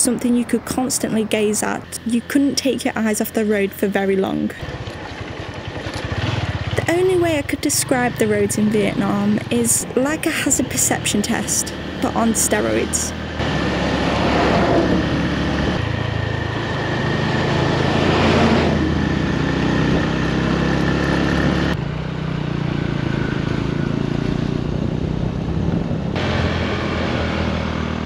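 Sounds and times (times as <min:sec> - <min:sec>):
motorbike engine drone: 0:00.0 - 0:28.0
truck passing: 0:00.0 - 0:28.0
wind and road noise: 0:00.0 - 0:28.0.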